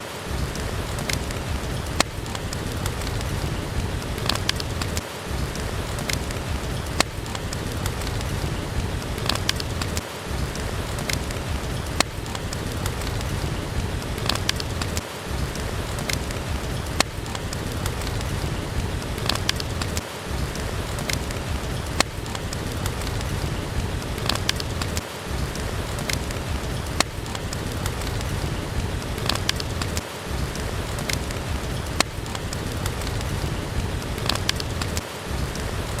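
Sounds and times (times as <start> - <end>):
heavy rain: 0.0 - 36.0
wood fire crackling: 0.0 - 36.0.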